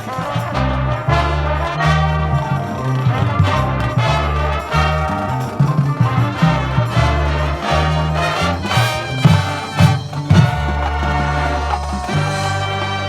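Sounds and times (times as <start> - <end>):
marching band brass playing: 0.0 - 13.0.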